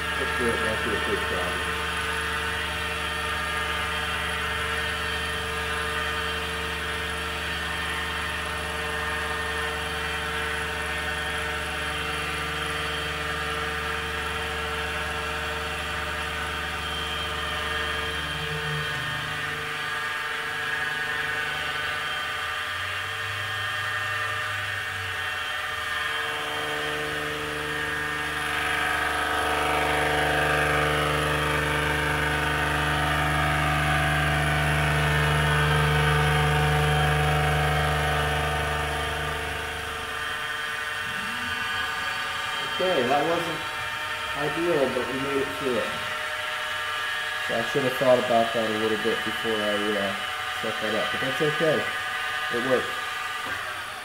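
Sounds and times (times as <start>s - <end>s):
axis motors whirring: 0.0s - 54.0s
spindle motor humming: 0.0s - 54.0s.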